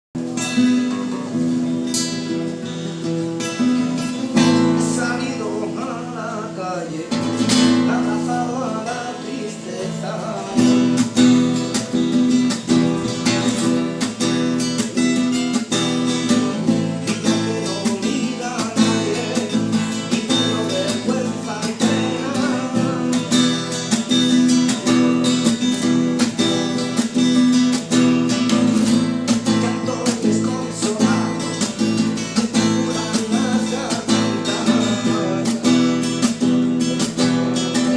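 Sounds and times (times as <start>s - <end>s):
acoustic guitar strumming: 0.2s - 37.9s.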